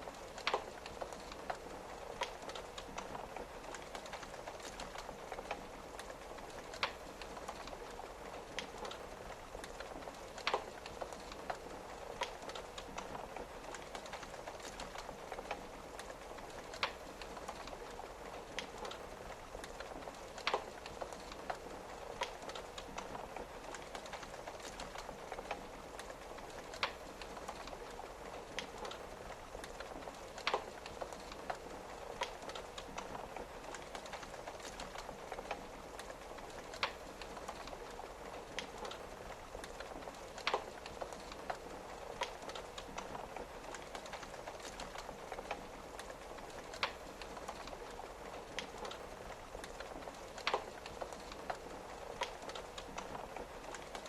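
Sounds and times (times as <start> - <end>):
rain on a window: 0.0 - 54.0
wood fire crackling: 0.0 - 54.0.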